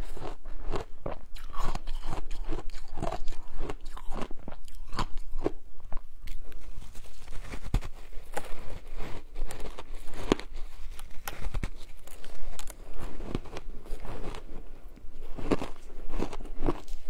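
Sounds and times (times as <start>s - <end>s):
chewing crunchy ice: 0.0s - 7.0s, 8.2s - 17.0s.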